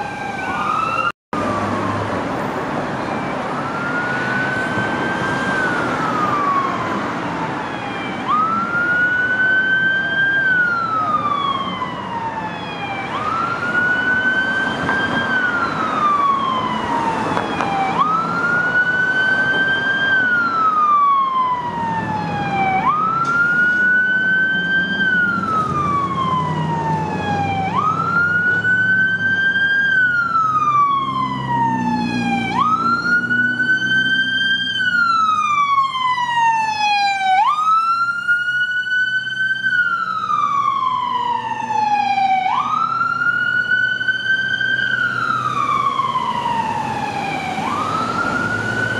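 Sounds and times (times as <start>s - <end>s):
emergency siren wailing: 0.0s - 48.9s.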